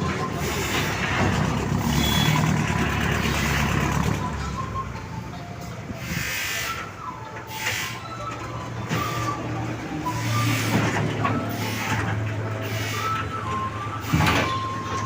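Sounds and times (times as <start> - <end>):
road roller engine humming: 0.0 - 15.0.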